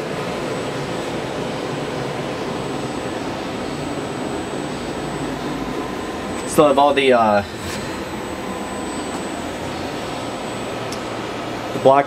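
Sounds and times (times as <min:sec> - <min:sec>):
machinery and cooling fans humming: 0:00.0 - 0:12.0.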